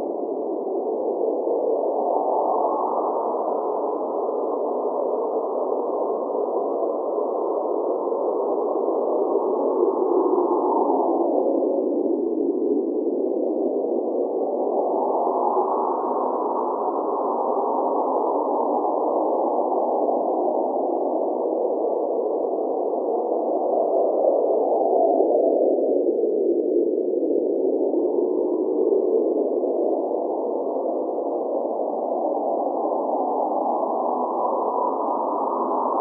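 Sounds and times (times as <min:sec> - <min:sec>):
blizzard wind blowing: 0:00.0 - 0:36.0.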